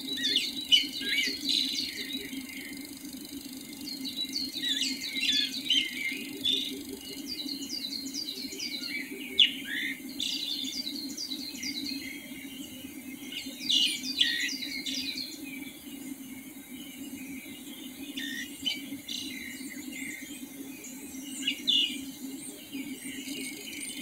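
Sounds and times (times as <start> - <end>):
birds chirping in chorus: 0.0 - 24.0
steady low hum: 0.0 - 24.0.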